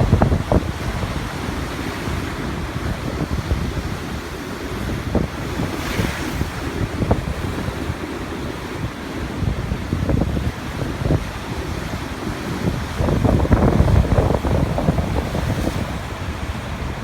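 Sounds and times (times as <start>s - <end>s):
sea waves washing on shore: 0.0s - 17.0s
wind rumbling on microphone: 0.0s - 17.0s.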